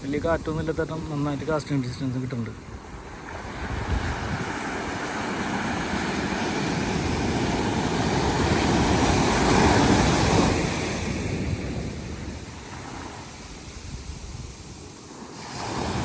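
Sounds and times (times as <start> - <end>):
sea surf on a beach: 0.0 - 16.0
wind rumbling on microphone: 0.0 - 16.0.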